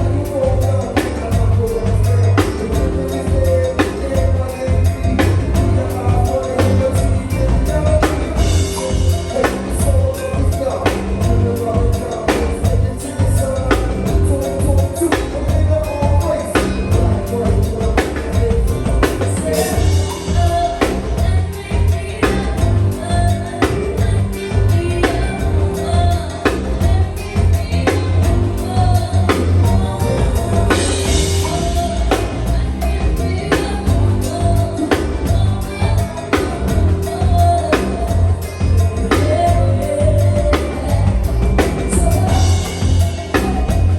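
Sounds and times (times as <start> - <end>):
drum kit beat: 0.0 - 43.9
heavy bass: 0.0 - 43.9
held keyboard notes: 0.0 - 43.9
live band playing: 0.0 - 43.9
person singing: 0.0 - 43.9.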